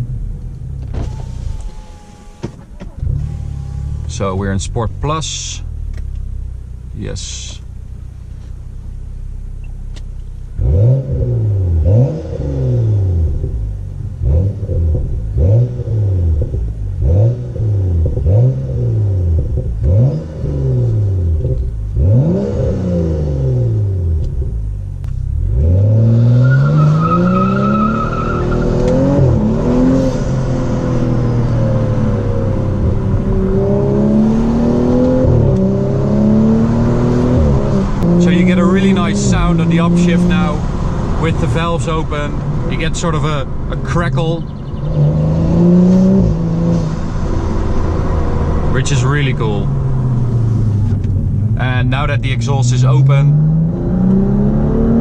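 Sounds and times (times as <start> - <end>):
car engine revving and accelerating: 9.6 - 55.0.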